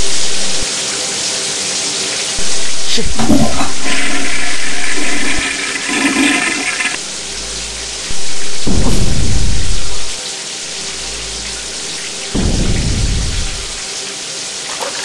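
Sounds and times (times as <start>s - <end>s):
toilet flushing: 0.0s - 15.0s.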